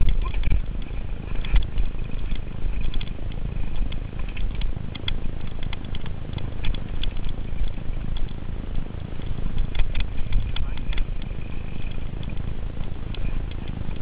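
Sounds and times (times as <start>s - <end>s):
bike rattling over bumps: 0.0s - 14.0s
tyres rumbling on dirt trail: 0.0s - 14.0s
wind buffeting microphone: 0.0s - 14.0s.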